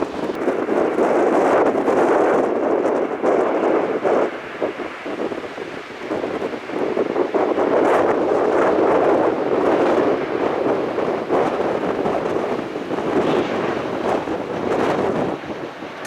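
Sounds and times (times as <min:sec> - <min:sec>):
jet airliner engines roaring: 0:00.0 - 0:16.0
wind buffeting microphone: 0:00.0 - 0:16.0.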